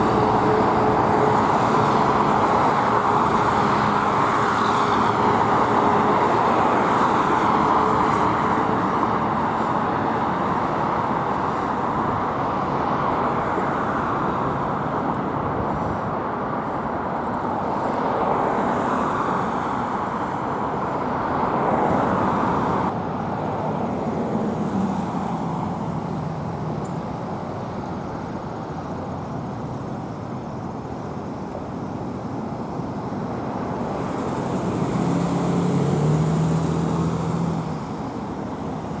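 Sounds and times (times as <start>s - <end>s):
vehicle engine hum: 0.0s - 28.4s, 33.0s - 39.0s
passing road traffic: 0.0s - 39.0s.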